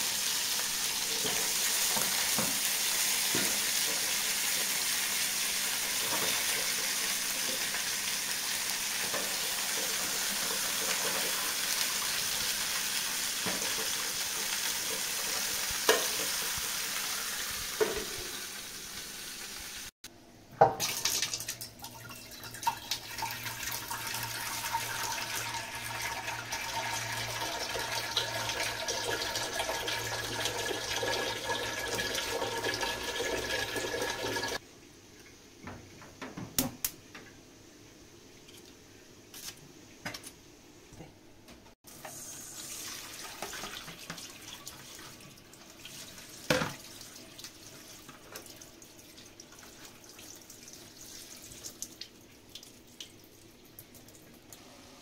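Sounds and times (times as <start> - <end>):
tap water running: 0.0 - 19.9, 20.6 - 34.6, 41.9 - 54.6.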